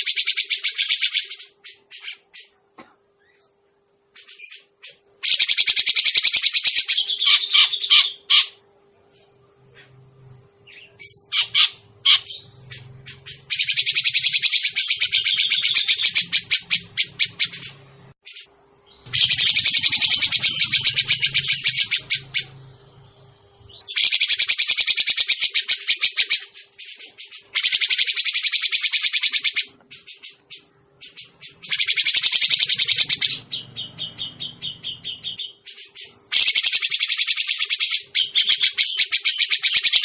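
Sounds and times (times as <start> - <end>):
bird chattering calls: 4.2 - 8.6, 10.7 - 22.6, 23.7 - 40.0.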